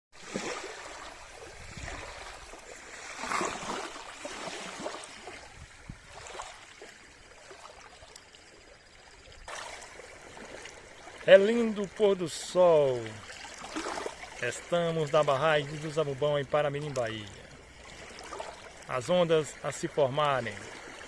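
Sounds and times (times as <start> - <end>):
waves lapping against rocks: 0.2 - 21.0.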